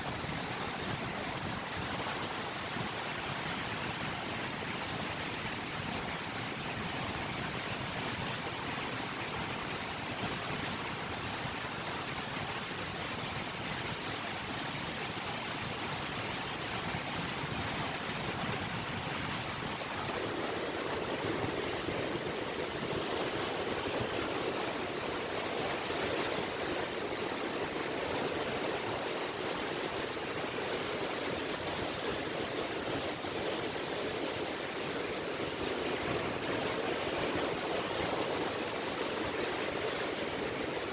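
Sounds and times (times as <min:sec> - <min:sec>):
small waves washing on beach: 0:00.0 - 0:40.9.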